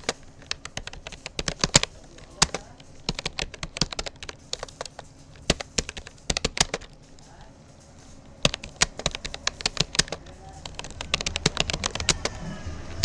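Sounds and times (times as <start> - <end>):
keyboard typing clicks: 0.0 - 7.3, 8.0 - 13.0.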